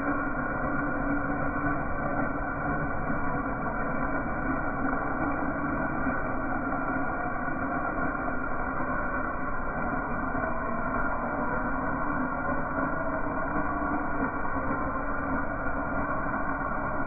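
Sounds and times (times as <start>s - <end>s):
faint steady drone: 0.0s - 17.0s.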